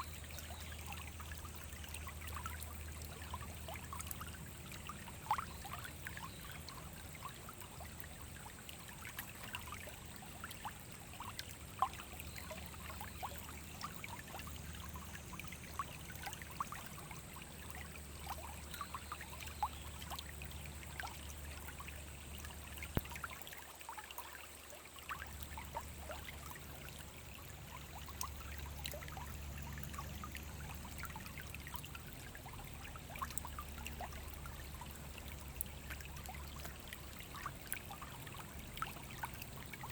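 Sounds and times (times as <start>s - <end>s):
stream trickling: 0.0s - 39.9s
water splashes and plinks: 0.0s - 39.9s.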